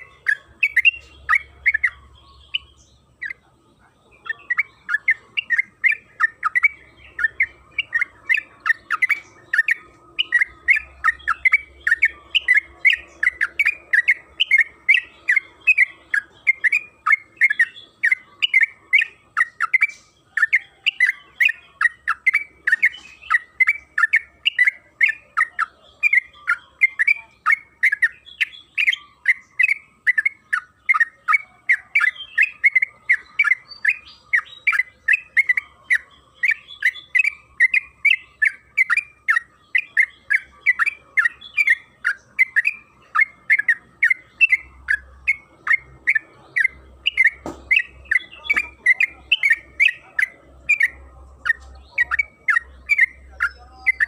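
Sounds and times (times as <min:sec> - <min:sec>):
bird chirping song: 0:00.0 - 0:54.0.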